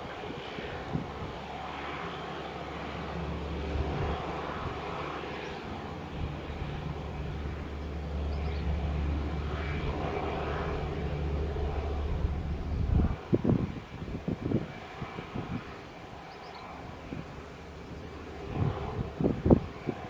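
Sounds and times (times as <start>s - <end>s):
distant turboprop engine drone: 0.0s - 20.0s.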